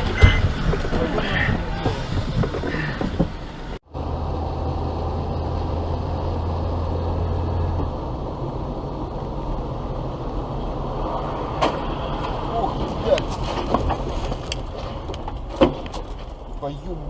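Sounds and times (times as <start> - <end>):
car driving road noise: 0.0 - 17.0.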